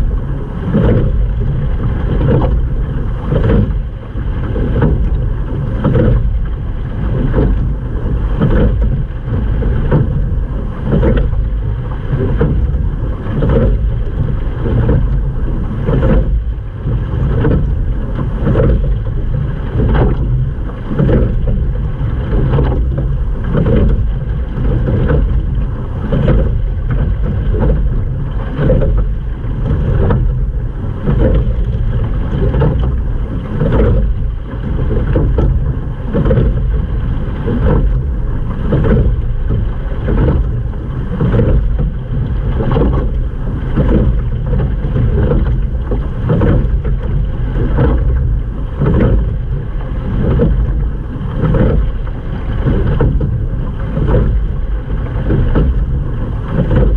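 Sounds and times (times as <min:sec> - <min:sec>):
oar knock and splash: 0:00.0 - 0:56.9
rush of wind and water: 0:00.0 - 0:56.9.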